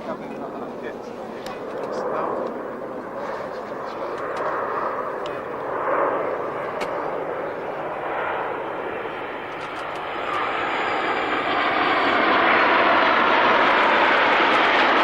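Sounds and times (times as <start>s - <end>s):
jet aircraft flying past: 0.0s - 15.0s.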